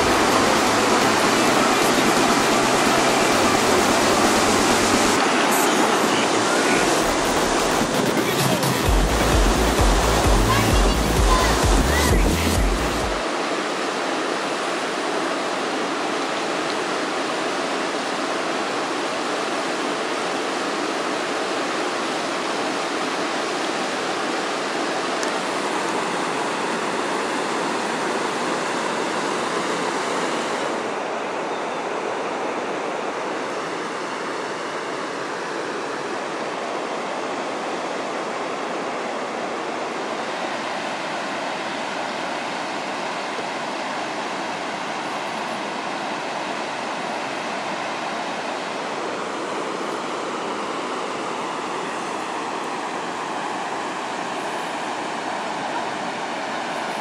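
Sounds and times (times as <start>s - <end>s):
rapids rushing over boulders: 0.0s - 57.0s.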